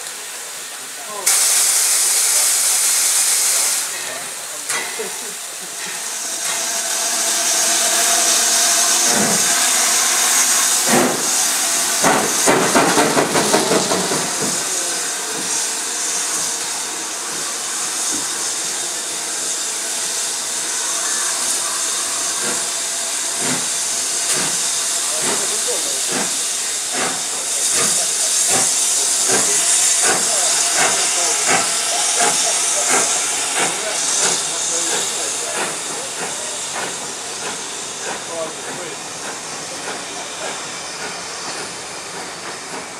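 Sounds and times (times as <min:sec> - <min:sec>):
steam hissing: 0:00.0 - 0:42.9
train coaches rolling: 0:00.0 - 0:42.9
steam locomotive exhaust beats: 0:01.3 - 0:42.9.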